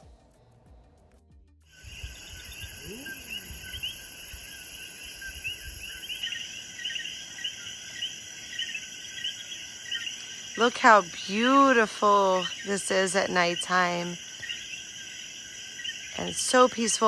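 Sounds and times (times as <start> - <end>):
frogs chirping: 1.7 - 17.0
high-pitched insect drone: 1.7 - 17.0.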